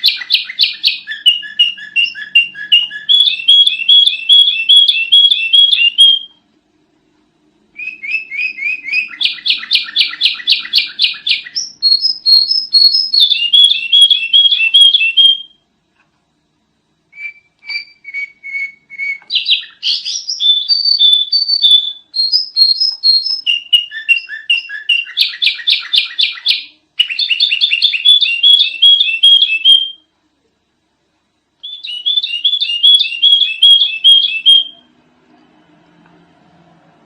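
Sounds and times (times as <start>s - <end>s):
bulbul singing chirps and whistles: 0.0s - 6.4s, 7.8s - 15.6s, 17.1s - 30.1s, 31.6s - 34.9s.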